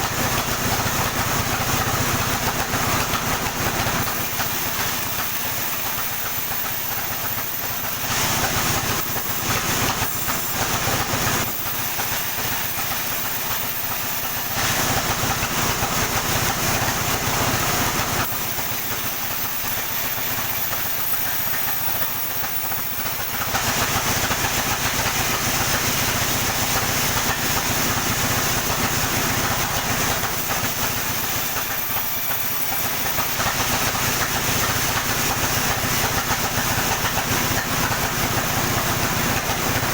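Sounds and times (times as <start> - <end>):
sawmill running: 0.0 - 39.9
saw blade hissing through wood: 3.8 - 39.8.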